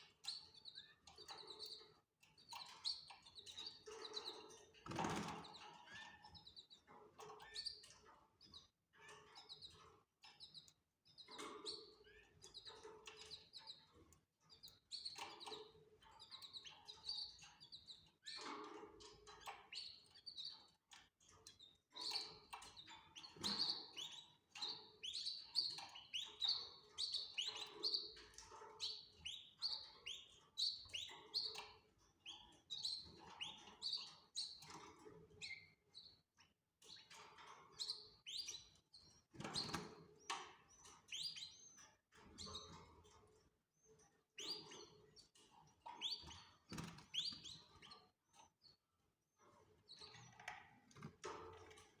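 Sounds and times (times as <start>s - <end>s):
canaries chirping: 0.0s - 48.8s, 49.4s - 52.0s.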